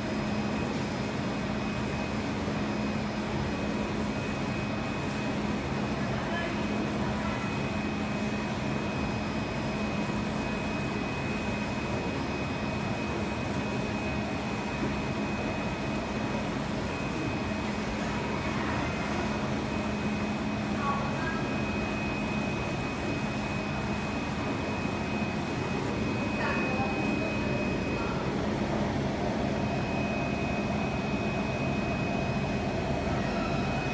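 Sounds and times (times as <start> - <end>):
printer machine hum: 0.0 - 33.9.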